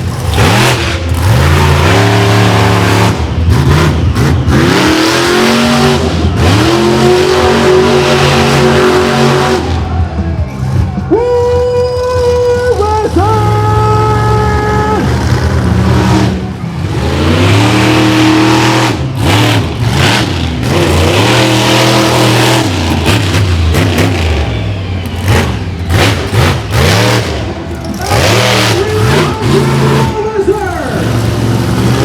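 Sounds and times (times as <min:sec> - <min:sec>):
truck engine revving hard: 0:00.0 - 0:10.9, 0:12.2 - 0:32.0.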